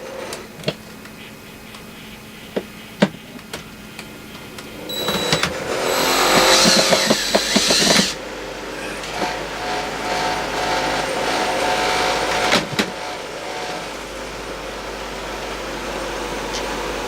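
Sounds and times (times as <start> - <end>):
cordless drill whining: 0.0 - 16.0.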